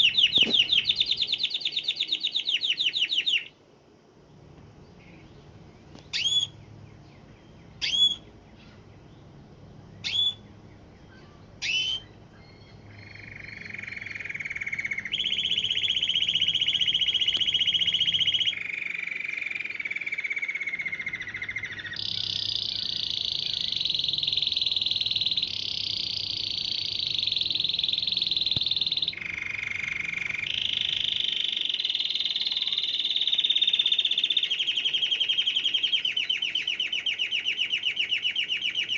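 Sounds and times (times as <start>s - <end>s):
canary trilling song: 0.0s - 3.5s, 4.8s - 38.9s
canary call notes: 0.0s - 3.6s, 4.9s - 38.9s.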